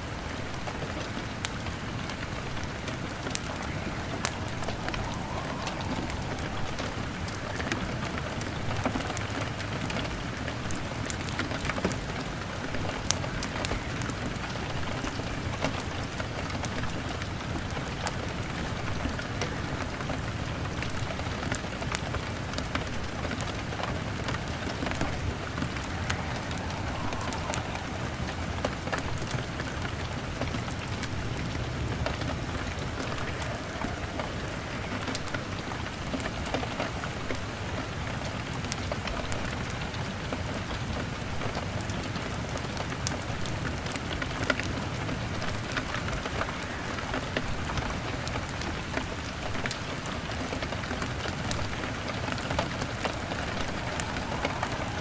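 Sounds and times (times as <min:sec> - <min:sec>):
rain pattering on a window: 0:00.0 - 0:55.0
wood fire crackling: 0:00.1 - 0:39.4, 0:45.5 - 0:55.0.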